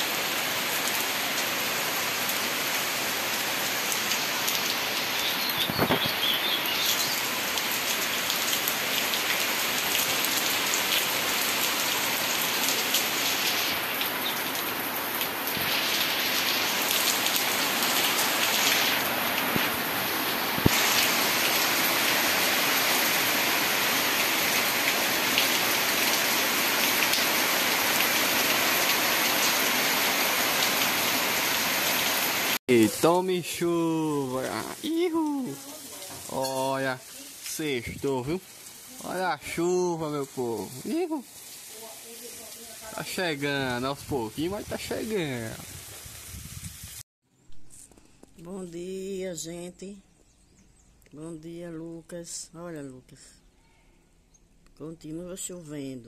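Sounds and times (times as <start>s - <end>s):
steady rain on roof: 0.0s - 46.2s.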